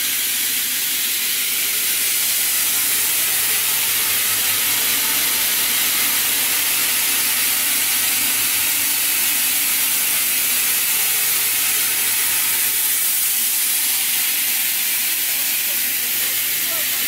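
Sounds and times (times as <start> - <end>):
spinning machine hissing: 0.0 - 17.0.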